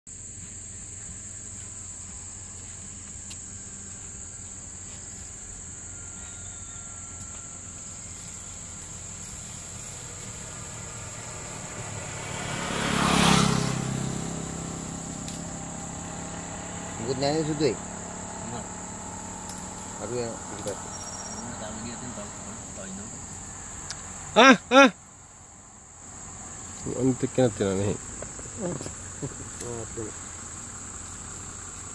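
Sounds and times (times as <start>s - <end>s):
low engine hum: 0.1s - 24.4s, 25.0s - 31.9s
insects chirring: 0.1s - 31.9s
vehicle passing: 0.1s - 31.9s.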